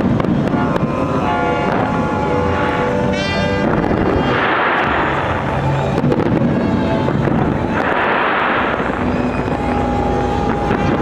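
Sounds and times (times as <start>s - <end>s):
fireworks crackling and rumbling: 0.0s - 11.0s.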